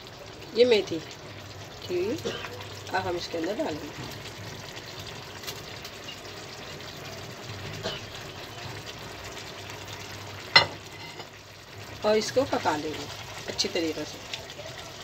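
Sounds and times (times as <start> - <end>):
curry bubbling in a pan: 0.0 - 15.0.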